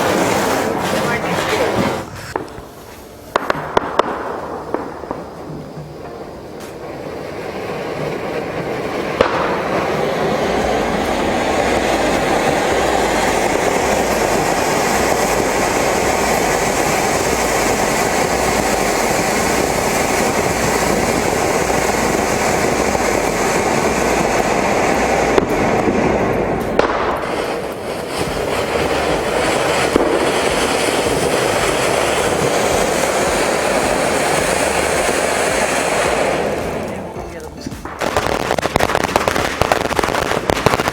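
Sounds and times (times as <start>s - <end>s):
firework crackling hiss: 0.0s - 40.9s.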